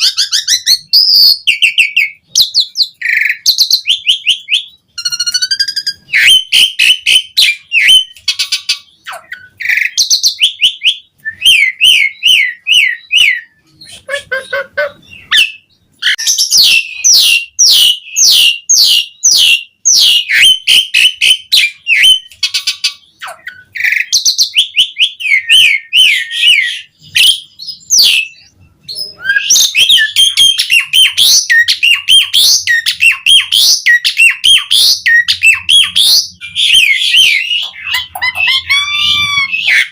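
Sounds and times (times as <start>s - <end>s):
starling singing whistled notes: 0.0s - 14.1s, 15.0s - 39.9s.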